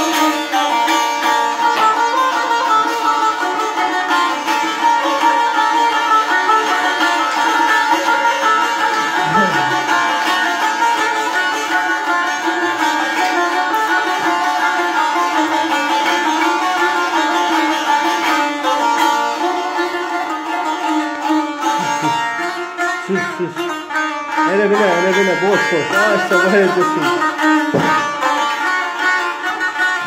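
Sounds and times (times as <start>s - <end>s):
long-necked lute strummed: 0.0s - 30.0s.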